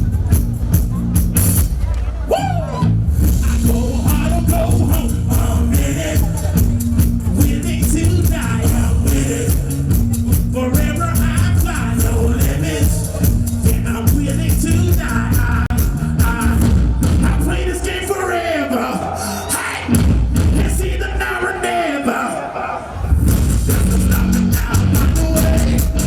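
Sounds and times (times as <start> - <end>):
loud rock band with heavy bass: 0.0 - 18.1, 19.9 - 21.4, 23.1 - 26.0
man singing: 3.3 - 26.0.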